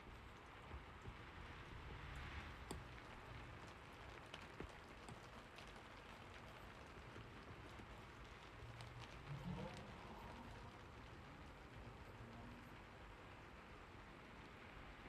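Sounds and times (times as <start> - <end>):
rain drop ticks: 0.0 - 15.0
soft steady rain: 0.0 - 15.0.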